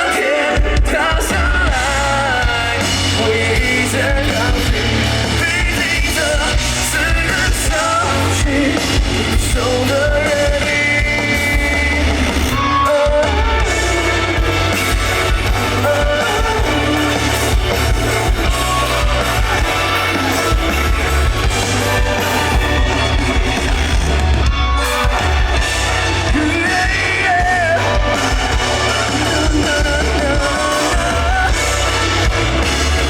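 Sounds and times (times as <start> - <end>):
person singing: 0.0 - 33.0
rock band playing: 0.0 - 33.0.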